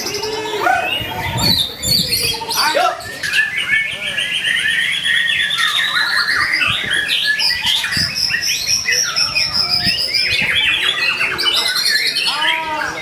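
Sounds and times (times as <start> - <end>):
songbird whistles and trills: 0.0 - 13.0.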